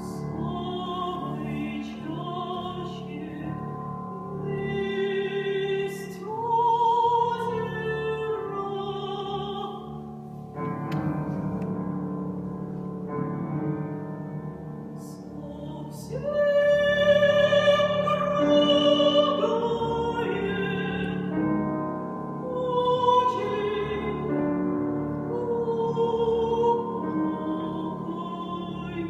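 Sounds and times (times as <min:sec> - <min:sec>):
woman singing opera: 0:00.0 - 0:10.2, 0:15.0 - 0:29.0
piano accompaniment: 0:00.0 - 0:29.0.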